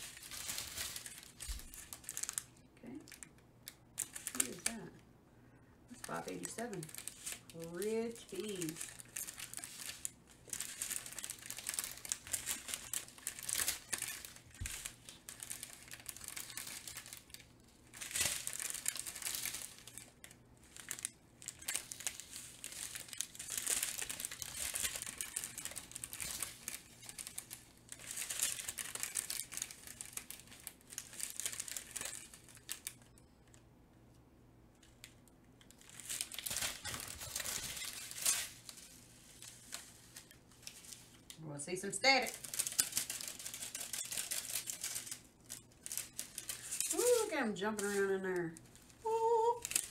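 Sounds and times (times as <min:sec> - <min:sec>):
plastic bags crinkling: 0:00.0 - 0:05.0, 0:05.9 - 0:33.6, 0:34.8 - 0:49.9.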